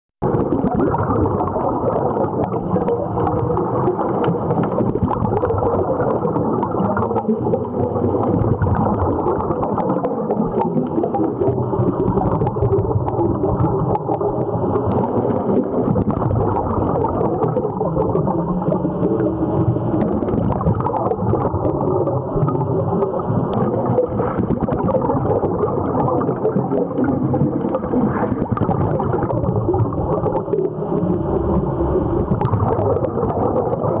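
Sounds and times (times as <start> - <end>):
underwater bubbles rumble: 0.2 - 34.0.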